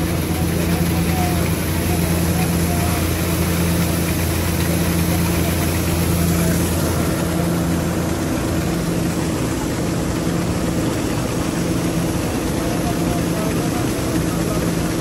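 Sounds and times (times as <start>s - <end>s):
harvester engine humming: 0.0s - 15.0s.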